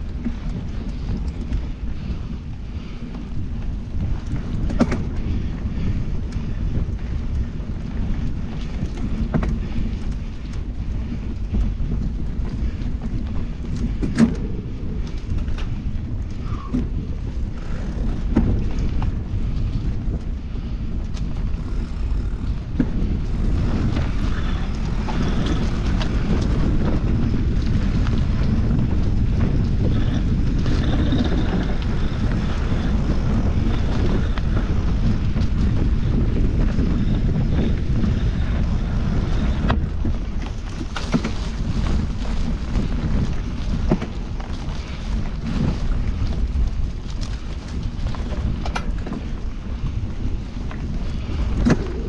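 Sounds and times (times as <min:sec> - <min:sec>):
bike clattering over bumps: 0:00.0 - 0:52.0
tyres rumbling on dirt: 0:00.0 - 0:52.0
wind buffeting microphone: 0:00.0 - 0:52.0.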